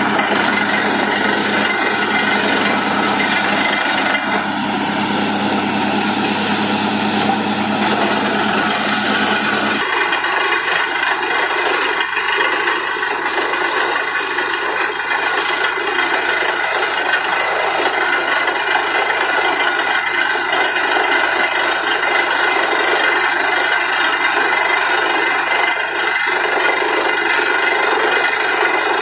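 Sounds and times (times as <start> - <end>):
constant whine: 0.0 - 29.0
drilling rig engine drone: 0.0 - 29.0.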